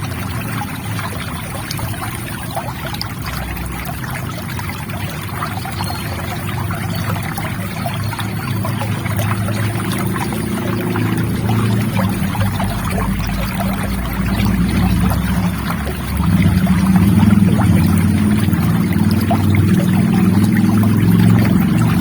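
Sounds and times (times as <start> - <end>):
river water flowing: 0.0 - 22.0
small water splashes: 0.0 - 22.0.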